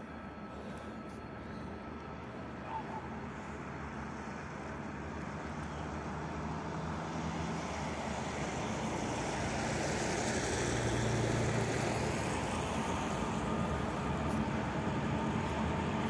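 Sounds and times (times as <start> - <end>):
distant locomotive engine drone: 0.0 - 16.0.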